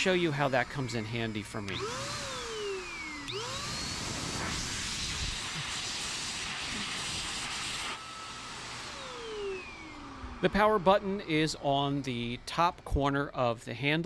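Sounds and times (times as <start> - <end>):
blower motor whine: 0.0 - 13.2.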